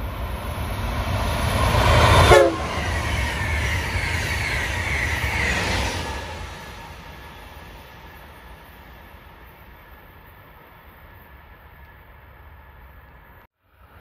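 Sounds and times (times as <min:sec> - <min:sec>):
high-speed train passing: 0:00.0 - 0:14.0.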